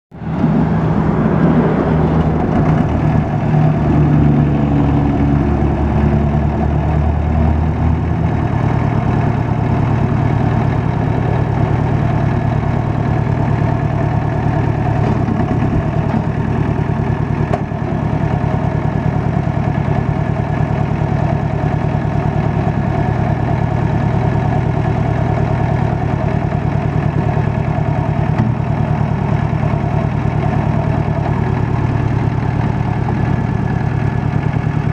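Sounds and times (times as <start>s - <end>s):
tractor diesel engine idling: 0.2s - 34.9s.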